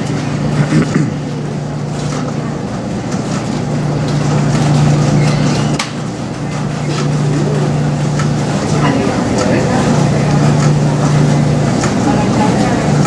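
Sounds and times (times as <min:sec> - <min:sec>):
tumble dryers droning: 0:00.0 - 0:13.0.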